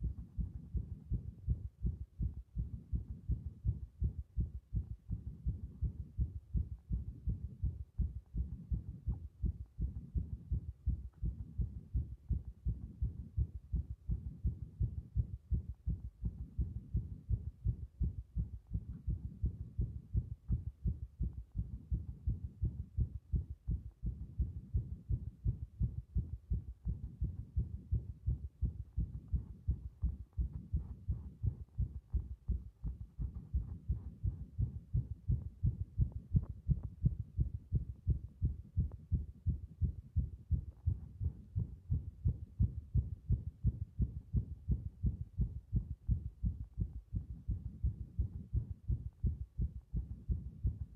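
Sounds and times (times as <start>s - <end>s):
heartbeat through stethoscope: 0.0s - 50.9s.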